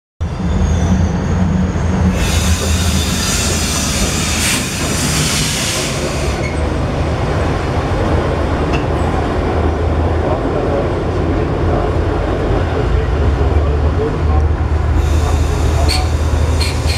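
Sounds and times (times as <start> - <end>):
tram rolling on rails: 0.2 - 16.9.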